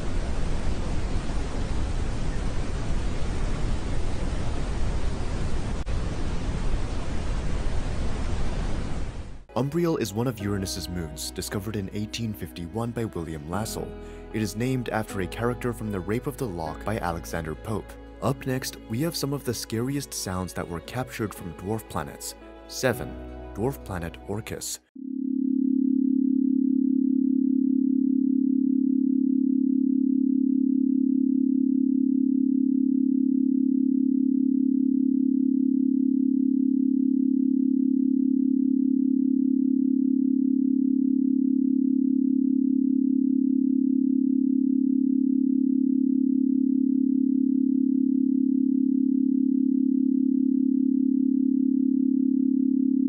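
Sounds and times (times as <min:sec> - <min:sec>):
steady low electronic tone: 0:09.6 - 0:53.0.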